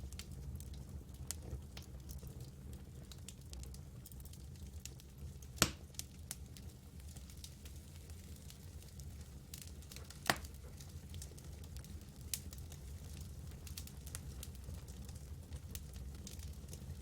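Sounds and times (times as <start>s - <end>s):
campfire crackling: 0.0s - 17.0s
low fire rumble: 0.0s - 17.0s.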